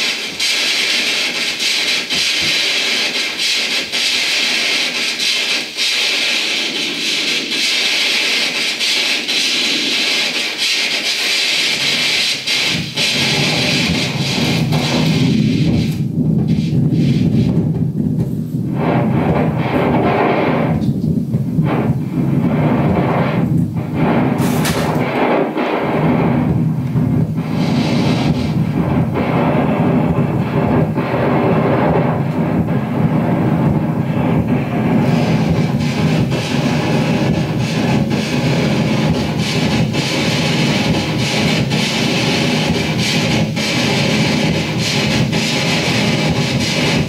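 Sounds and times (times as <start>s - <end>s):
experimental noise music on turntable: 0.0s - 47.0s.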